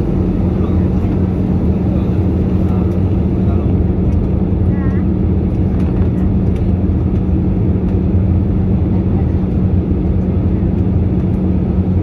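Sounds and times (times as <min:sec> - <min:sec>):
deep rumble: 0:00.0 - 0:12.0
jet engine drone: 0:00.0 - 0:12.0
low hum: 0:00.0 - 0:12.0.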